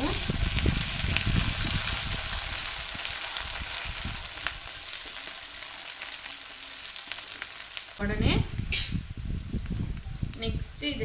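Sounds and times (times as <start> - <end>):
faint pops and crackles: 0.0 - 10.6
food sizzling in oil: 0.0 - 10.6.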